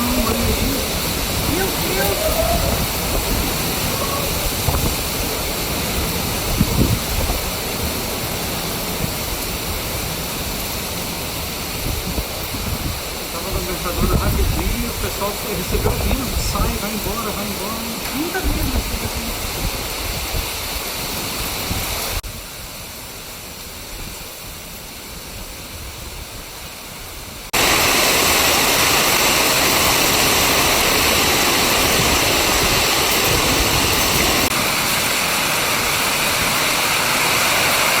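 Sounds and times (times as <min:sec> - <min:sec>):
torrential rain pouring: 0:00.0 - 0:38.0.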